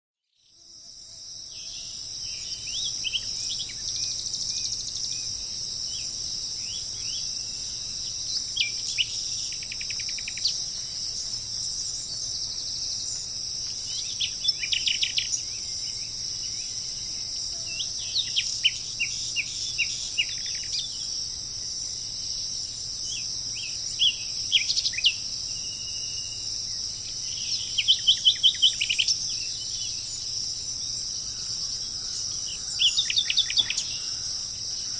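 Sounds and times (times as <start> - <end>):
high insect chorus: 0.3 - 34.9
songbirds singing: 0.3 - 34.9.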